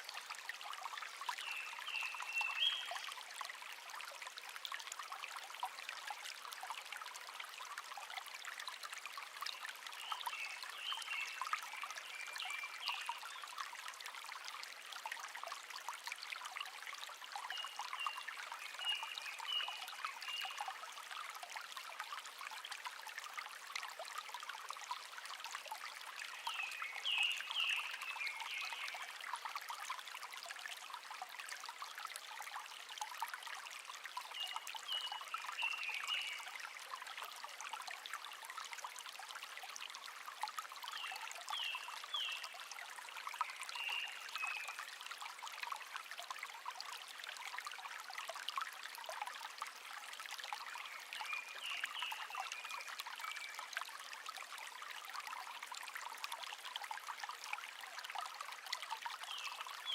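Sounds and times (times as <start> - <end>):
stream trickling and babbling: 0.0 - 59.9.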